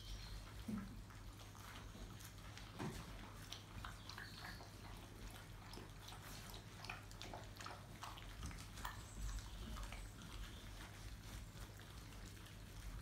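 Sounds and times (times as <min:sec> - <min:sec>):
puppies crunching kibble: 0:00.0 - 0:13.0.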